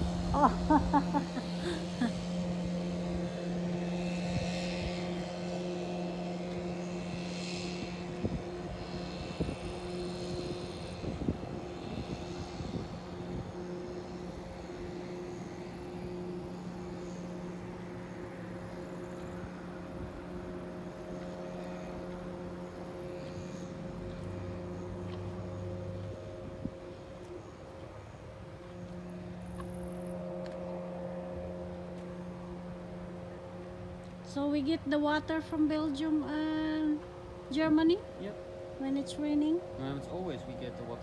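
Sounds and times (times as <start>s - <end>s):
engine droning: 0.0s - 41.0s.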